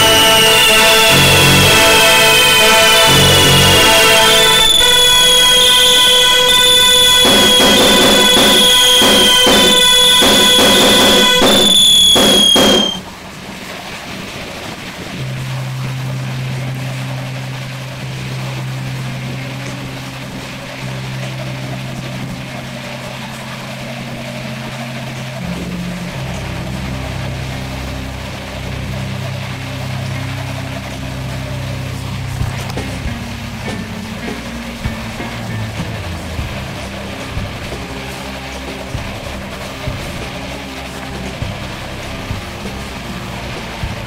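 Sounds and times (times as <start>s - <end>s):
electronic music with steady beat: 0.0s - 13.2s, 15.2s - 44.0s
sustained low music note: 0.0s - 13.5s, 15.1s - 44.0s.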